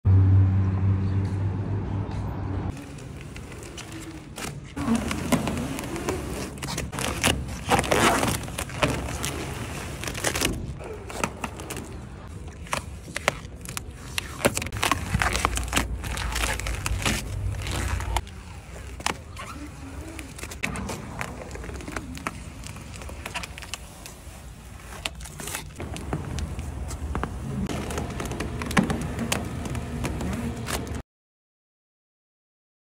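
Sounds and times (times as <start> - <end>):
vinyl film peeling and crackling: 2.7 - 31.0.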